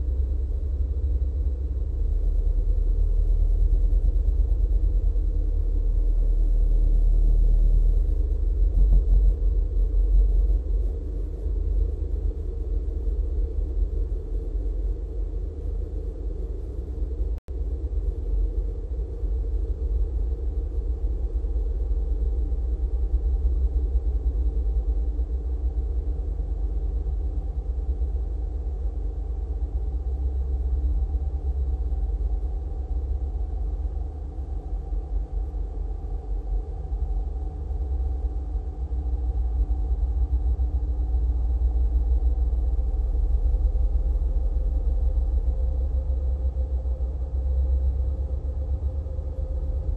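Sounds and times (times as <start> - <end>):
low electronic ambient drone: 0.0 - 49.9.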